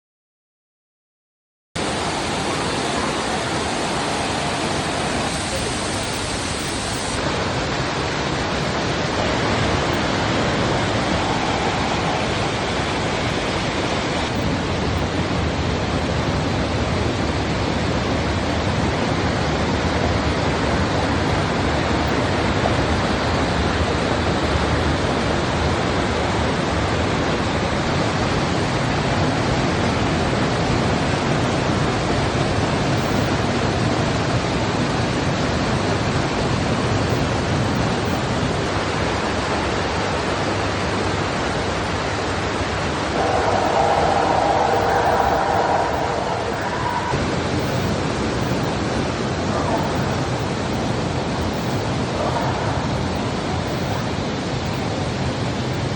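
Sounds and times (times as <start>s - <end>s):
waterfall crashing: 1.8s - 55.9s.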